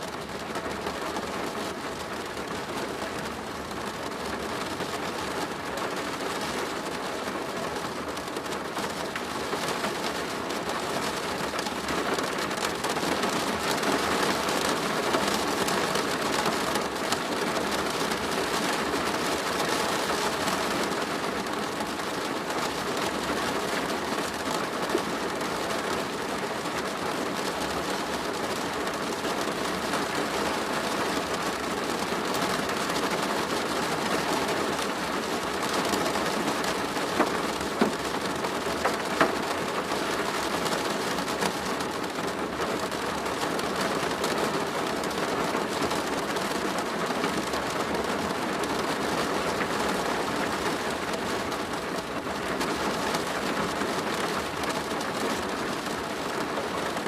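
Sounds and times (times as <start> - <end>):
rain drumming on plastic roof: 0.0 - 57.0.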